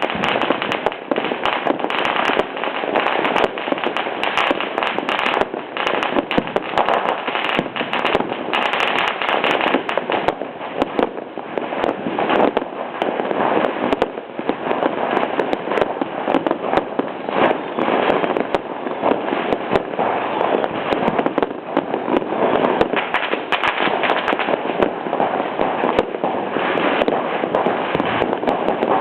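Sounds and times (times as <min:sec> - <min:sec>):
fireworks cracking and banging: 0:00.0 - 0:29.0.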